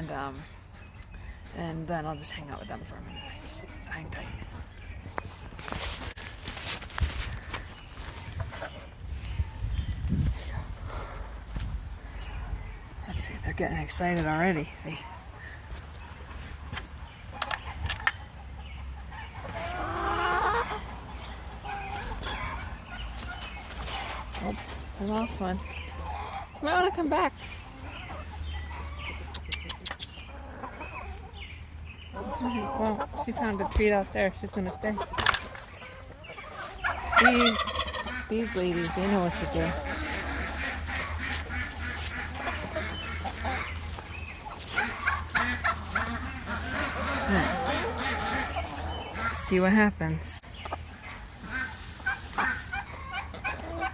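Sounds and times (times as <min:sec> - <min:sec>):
hens clucking: 0:00.0 - 0:53.9.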